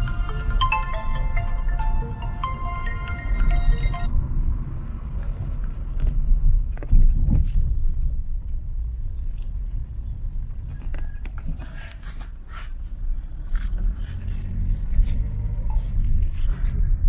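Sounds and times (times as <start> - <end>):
car driving on road: 0.0 - 17.0.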